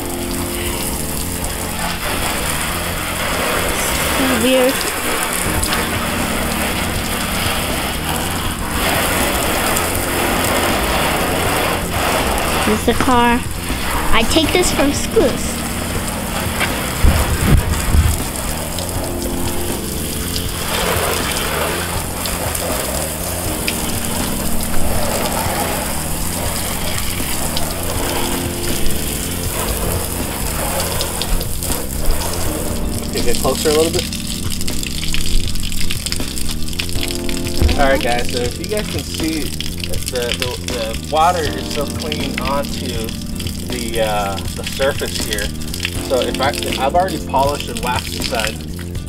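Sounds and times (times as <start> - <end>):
hose spray hitting truck: 0.0 - 48.6
background music: 0.0 - 49.0.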